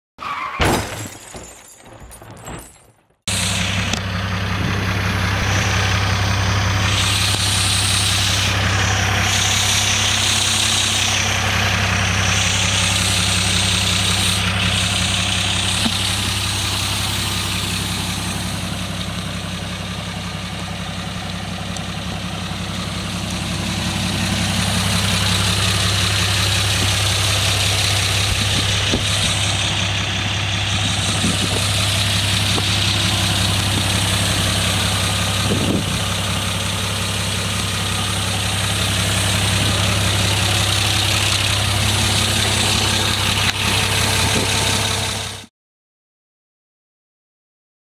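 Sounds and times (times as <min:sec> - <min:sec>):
forklift engine idling: 0:03.3 - 0:45.5.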